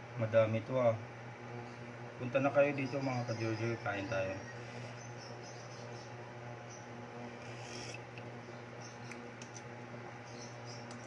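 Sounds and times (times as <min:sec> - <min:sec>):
induction cooker hum: 0:00.0 - 0:11.0.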